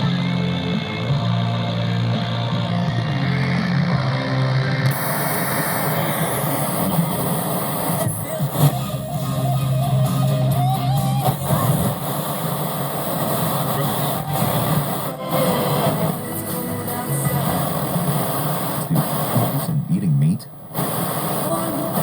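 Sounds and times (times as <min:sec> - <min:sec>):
guitar music through speakers: 0:00.0 - 0:22.0.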